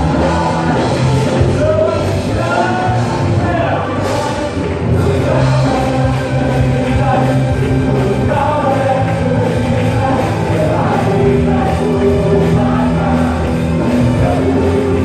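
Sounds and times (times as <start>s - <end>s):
worship song over sound system: 0.0s - 15.0s.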